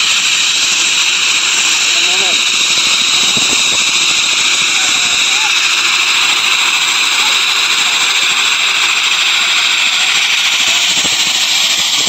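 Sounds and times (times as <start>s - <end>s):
turboprop engine whine: 0.0s - 12.0s.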